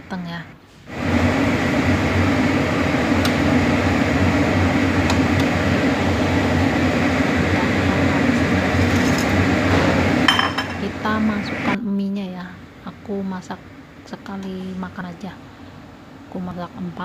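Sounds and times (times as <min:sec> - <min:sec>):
range hood fan running: 0:00.0 - 0:17.0.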